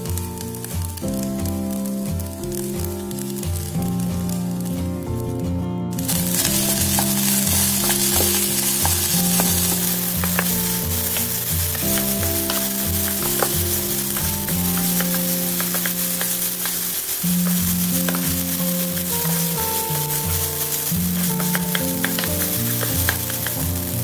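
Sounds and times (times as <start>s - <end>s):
background music: 0.0s - 24.0s
rice sizzling in a pot: 0.0s - 24.0s.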